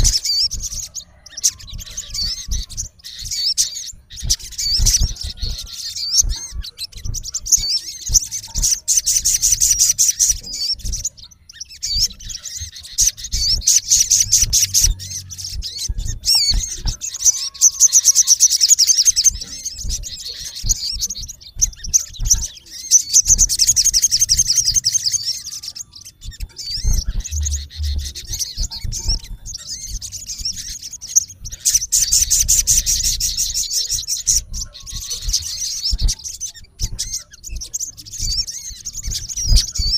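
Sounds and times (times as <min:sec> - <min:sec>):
bird trilling calls: 0:00.0 - 0:39.9.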